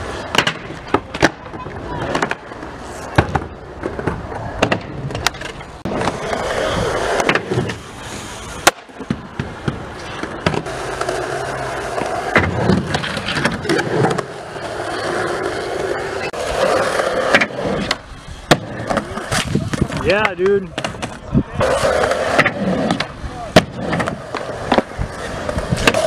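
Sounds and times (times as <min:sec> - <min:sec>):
skateboard wheels rolling on concrete: 0:00.0 - 0:26.0.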